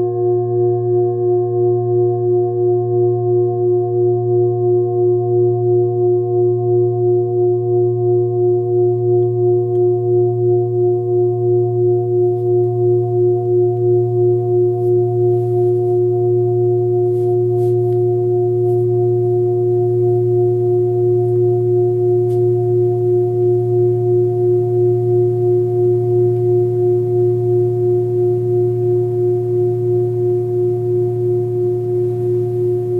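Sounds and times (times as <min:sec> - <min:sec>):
singing bowl humming: 0:00.0 - 0:32.9.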